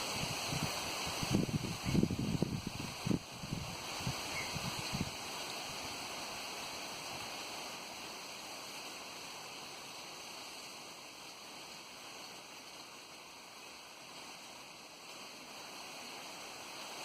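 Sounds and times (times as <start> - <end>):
wind rushing at the shore: 0.0 - 17.0.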